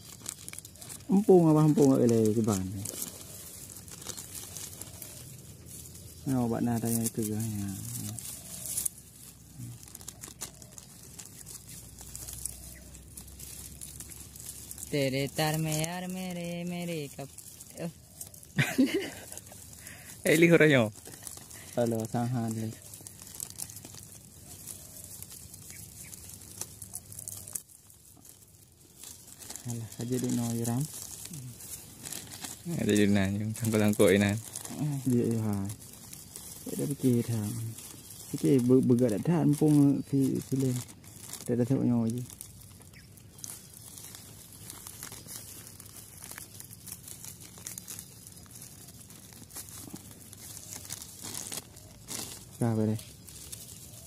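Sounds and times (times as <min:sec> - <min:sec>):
dry grass rustling: 0:00.0 - 0:54.0
plastic bag crinkling: 0:00.0 - 0:54.0.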